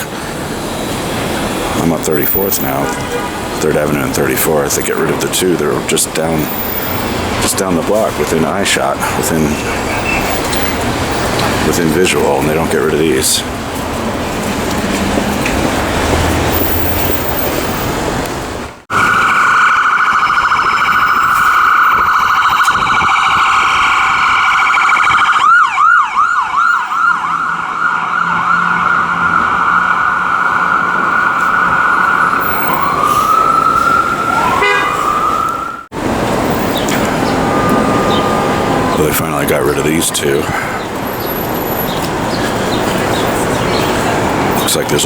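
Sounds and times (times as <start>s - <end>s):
ambulance siren: 0.0s - 13.4s, 14.0s - 18.2s, 18.9s - 45.0s.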